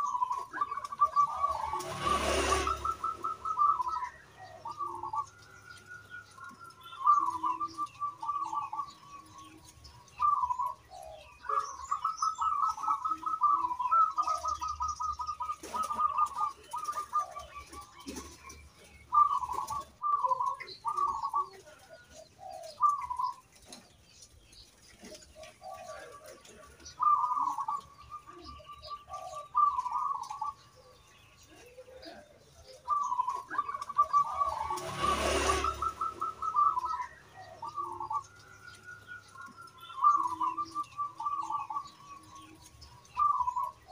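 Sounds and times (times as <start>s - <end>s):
doves cooing trills: 0.0s - 43.9s.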